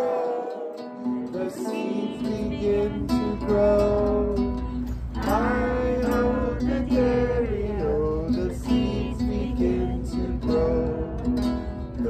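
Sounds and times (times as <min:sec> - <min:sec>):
acoustic guitar strumming: 0:00.0 - 0:12.0
voices singing: 0:00.0 - 0:12.0.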